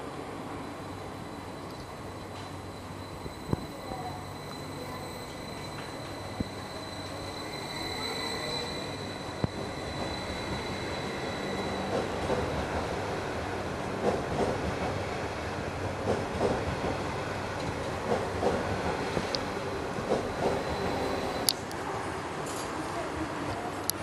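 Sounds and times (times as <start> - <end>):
train high whine: 0.0 - 24.0.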